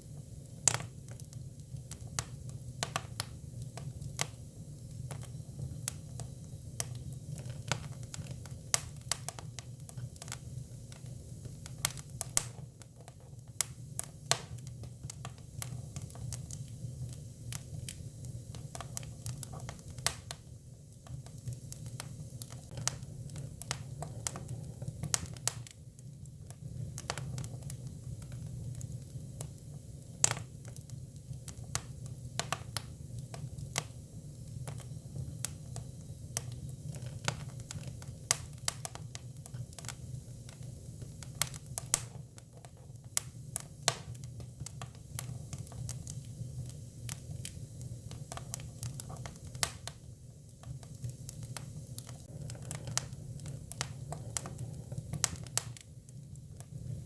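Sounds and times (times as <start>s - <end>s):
fire crackling and popping: 0.0s - 57.0s
low rumble of fire: 0.0s - 57.0s.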